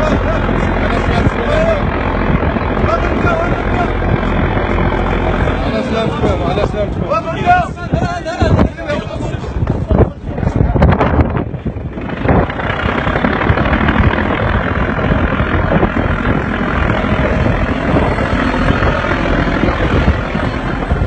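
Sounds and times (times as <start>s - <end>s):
boat motor running: 0.0s - 21.0s
wind on microphone: 0.0s - 21.0s.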